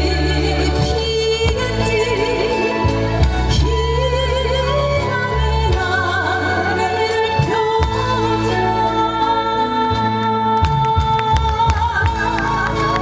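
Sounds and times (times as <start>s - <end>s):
instrumental accompaniment with bass: 0.0s - 13.0s
woman singing with vibrato: 0.0s - 13.0s.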